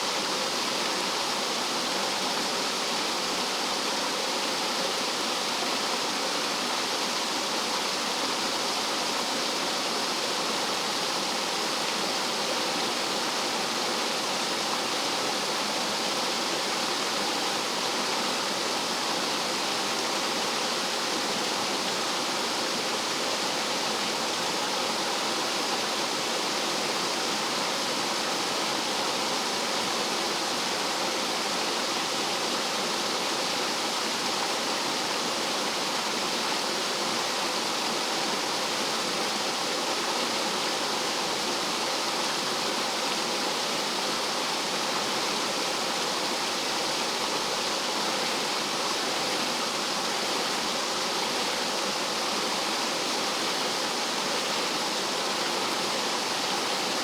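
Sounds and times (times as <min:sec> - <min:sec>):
stream water rushing over rocks: 0:00.0 - 0:57.0.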